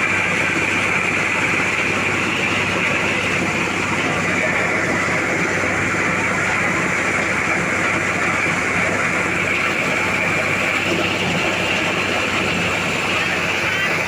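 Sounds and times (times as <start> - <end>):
corn sheller mechanical din: 0.0 - 14.0
engine hum: 0.0 - 14.0.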